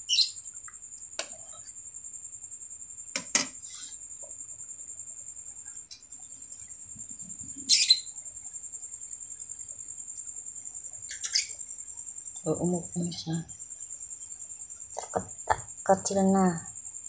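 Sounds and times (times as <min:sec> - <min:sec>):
cricket chirping trill: 0:00.0 - 0:17.0.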